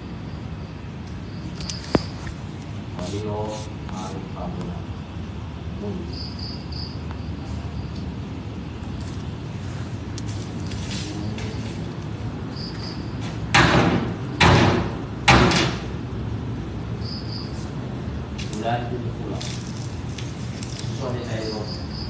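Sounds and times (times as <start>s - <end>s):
crickets chirping: 0.0s - 14.4s, 15.9s - 22.0s.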